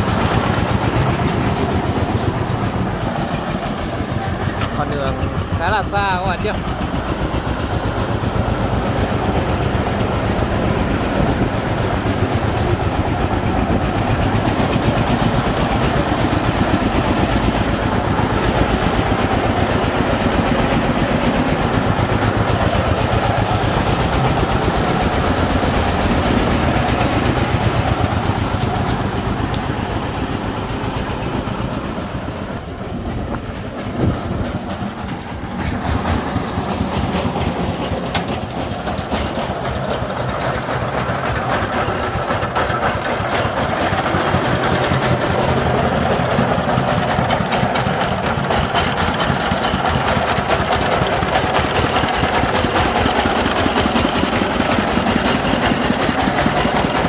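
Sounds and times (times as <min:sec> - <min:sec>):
diesel engine chugging: 0:00.0 - 0:57.0
engine knock: 0:00.0 - 0:57.0.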